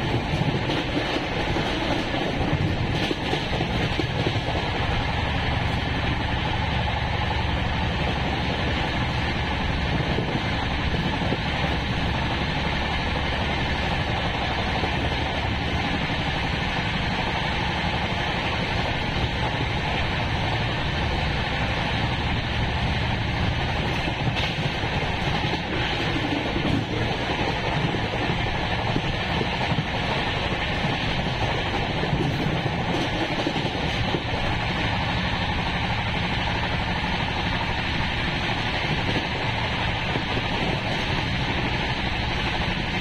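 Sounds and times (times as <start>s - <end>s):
train wheels rumbling on rails: 0.0s - 43.0s
wind noise: 0.0s - 43.0s.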